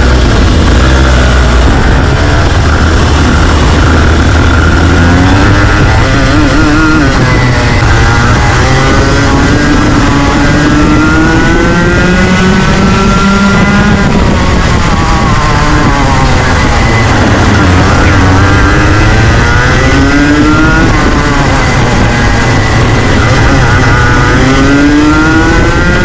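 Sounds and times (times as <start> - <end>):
kart engines racing: 0.0 - 26.0.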